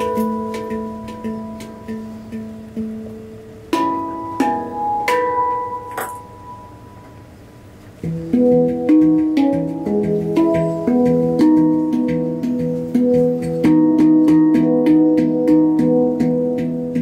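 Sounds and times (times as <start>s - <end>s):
handpan notes: 0.0s - 17.0s.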